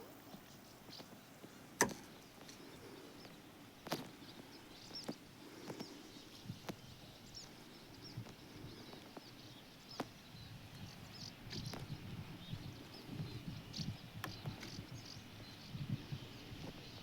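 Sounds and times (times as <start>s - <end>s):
faint outdoor background: 0.0s - 17.0s
small birds chirping: 0.0s - 17.0s.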